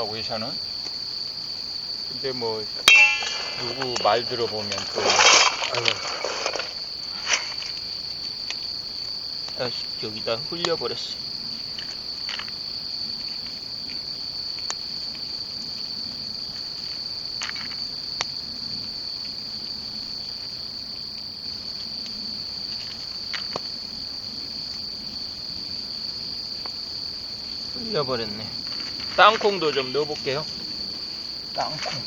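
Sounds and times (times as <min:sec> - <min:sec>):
crickets chirring: 0:00.0 - 0:32.0.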